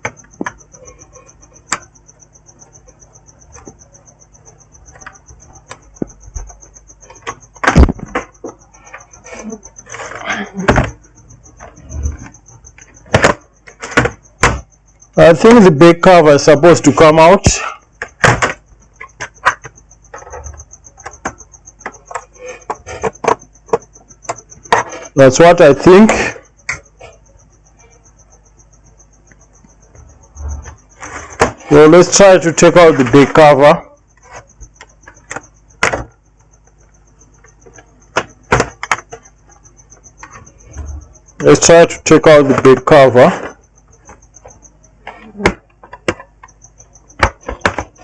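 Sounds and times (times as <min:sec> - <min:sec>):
faint pulsing high whine: 0:00.0 - 0:48.0.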